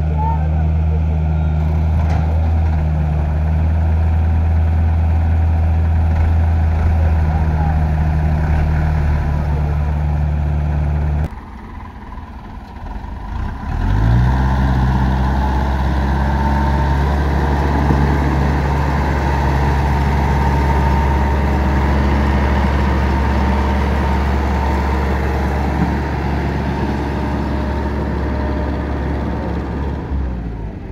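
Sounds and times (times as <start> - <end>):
heavy engine humming: 0.0 - 30.9.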